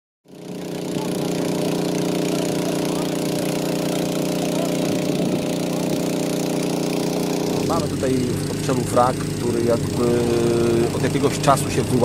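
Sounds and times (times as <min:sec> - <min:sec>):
diesel engine running: 0:00.3 - 0:12.0.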